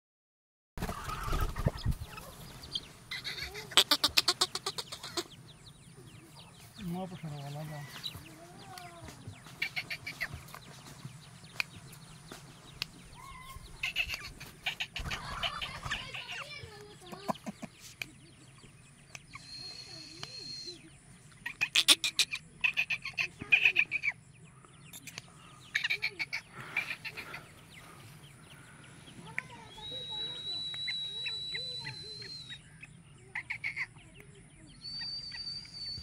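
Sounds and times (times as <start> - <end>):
francolins harsh clucking calls: 0.8 - 36.0.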